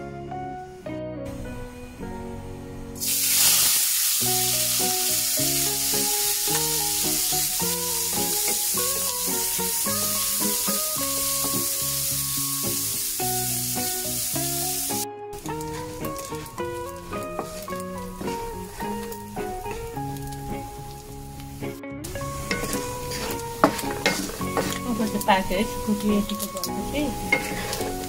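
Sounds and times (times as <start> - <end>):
meat sizzling in hot oil: 3.0 - 28.0.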